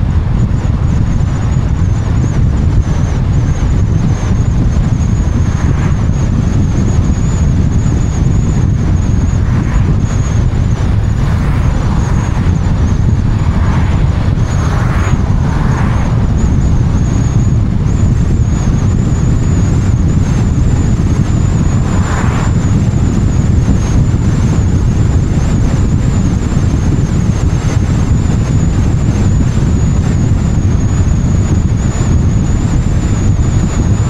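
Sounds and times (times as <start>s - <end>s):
faint high whine: 0.0s - 34.0s
tyre and road rumble: 0.0s - 34.0s
wind buffeting camera: 0.0s - 34.0s.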